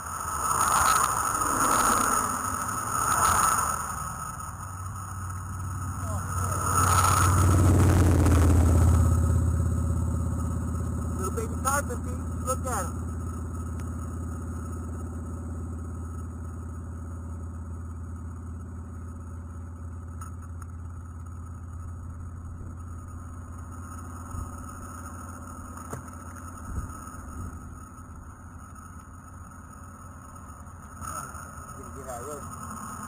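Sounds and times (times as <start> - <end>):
motor idling hum: 0.0 - 33.0.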